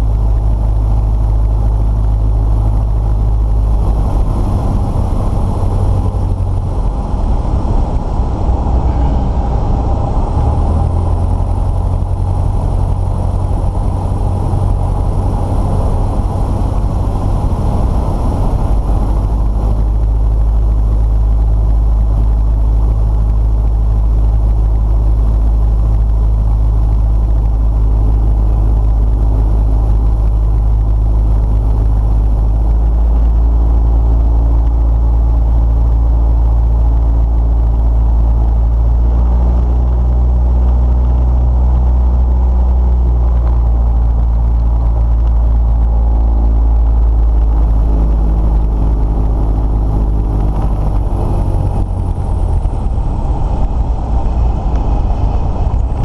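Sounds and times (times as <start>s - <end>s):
plane propeller engine droning: 0.0s - 56.0s.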